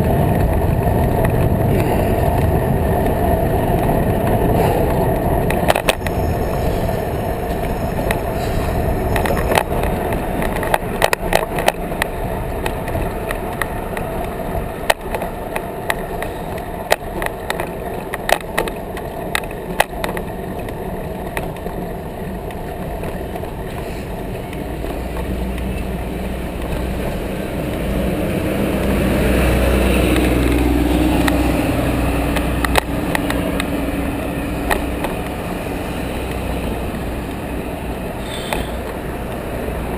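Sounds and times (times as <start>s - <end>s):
bicycle tyre rumble: 0.0s - 39.9s
bike clicking over joints: 0.0s - 39.9s
road traffic passing: 0.0s - 39.9s
wind on microphone: 0.0s - 39.9s.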